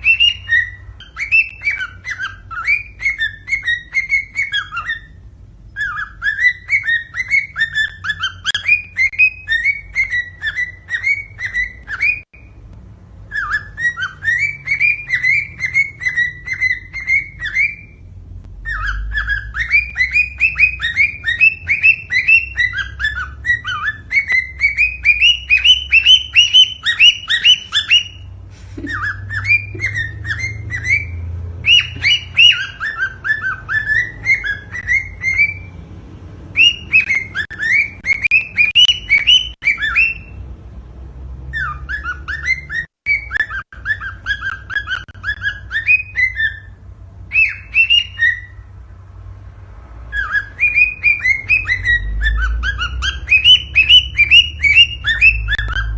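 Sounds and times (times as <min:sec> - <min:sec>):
cockatiel whistled chirps: 0:00.0 - 0:12.6, 0:13.3 - 0:35.7, 0:36.5 - 0:40.4, 0:41.5 - 0:48.7, 0:50.1 - 0:55.9
low steady hum: 0:00.0 - 0:50.3.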